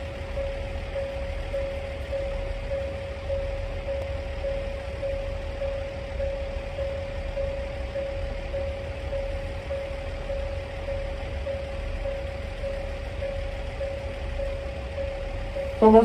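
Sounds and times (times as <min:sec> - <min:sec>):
diesel railcars idling: 0:00.0 - 0:16.0
pulsing warning tone: 0:00.0 - 0:16.0.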